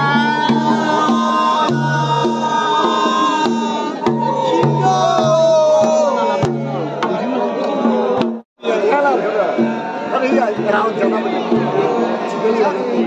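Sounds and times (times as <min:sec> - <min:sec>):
barrel drums beat: 0:00.0 - 0:08.4, 0:09.0 - 0:13.0.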